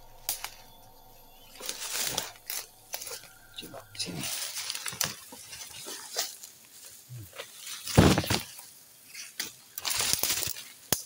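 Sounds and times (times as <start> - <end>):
dry crackling: 0.0 - 11.0
footsteps through leaf litter: 1.5 - 10.9.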